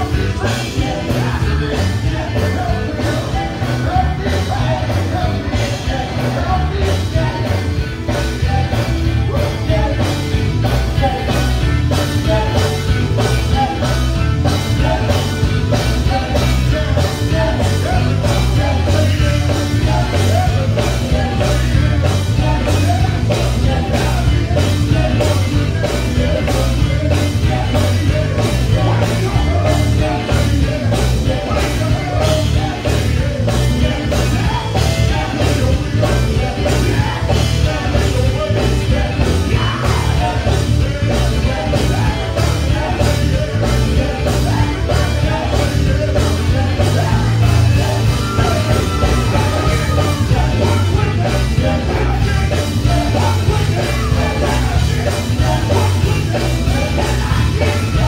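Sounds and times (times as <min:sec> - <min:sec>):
band with heavy bass: 0:00.0 - 0:58.0
men singing gospel: 0:00.0 - 0:58.0.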